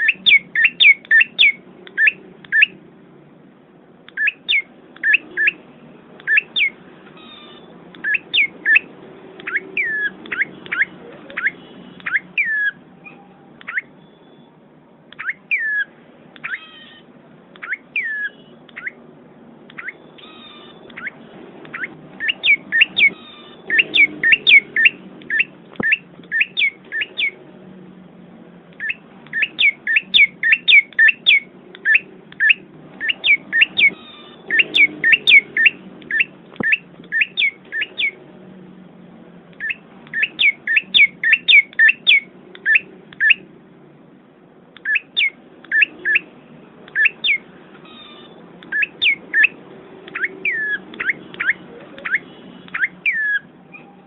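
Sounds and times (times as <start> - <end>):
songbird chirping: 0.0 - 2.8, 4.1 - 14.5, 15.1 - 27.5, 28.7 - 38.3, 39.5 - 43.5, 44.8 - 54.0.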